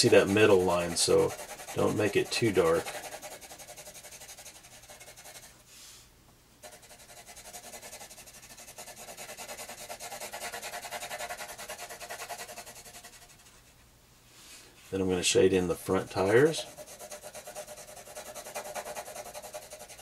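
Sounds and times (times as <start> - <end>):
pencil shading on paper: 0.0 - 5.6, 6.6 - 13.7, 15.8 - 20.0.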